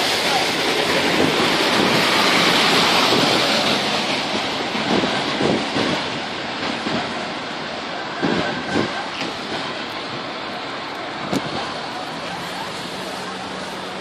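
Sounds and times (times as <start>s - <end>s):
tyres hissing on wet road: 0.0s - 14.0s.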